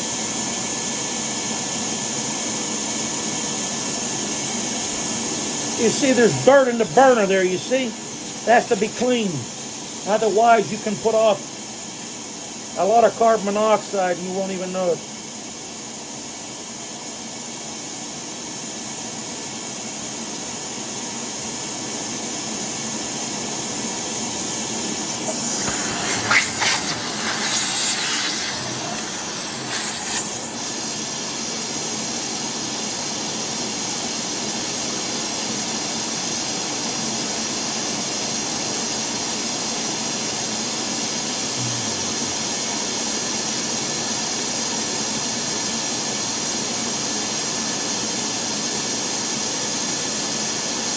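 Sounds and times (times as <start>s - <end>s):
shop vacuum running: 0.0s - 50.9s.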